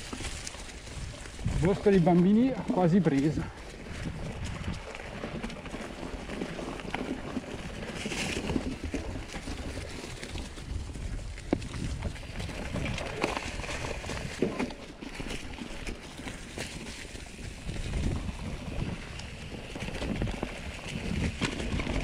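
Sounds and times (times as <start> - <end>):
bike tyres crunching leaves: 0.0 - 22.0.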